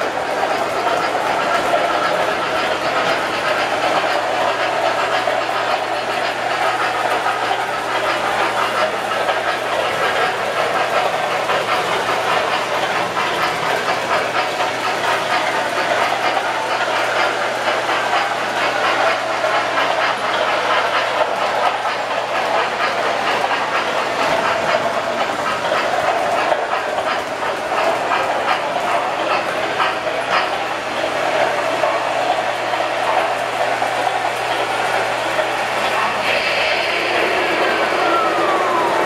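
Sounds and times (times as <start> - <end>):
model train wheels rumbling: 0.0 - 39.0.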